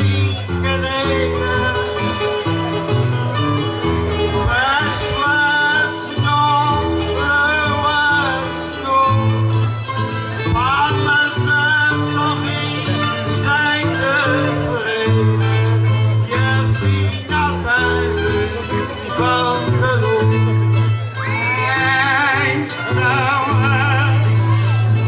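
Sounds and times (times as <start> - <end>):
held bass notes: 0.0 - 25.0
plucked guitars playing folk music: 0.0 - 25.0.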